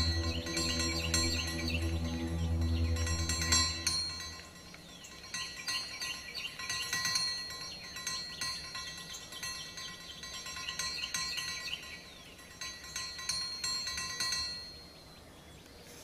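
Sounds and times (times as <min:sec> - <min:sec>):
chimes ringing: 0:00.0 - 0:15.0.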